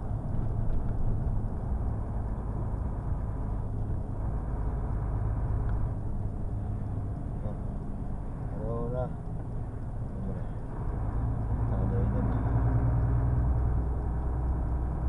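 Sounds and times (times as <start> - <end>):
road noise: 0.0 - 15.0
truck diesel engine: 0.0 - 15.0.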